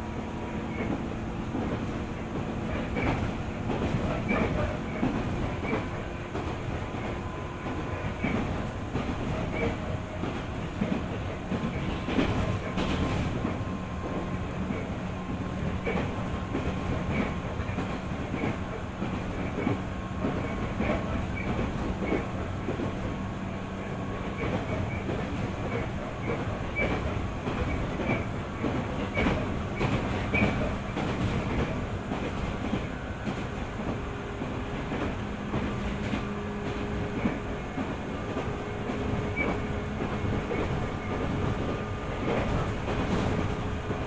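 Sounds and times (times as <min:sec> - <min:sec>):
train low hum: 0:00.0 - 0:44.0.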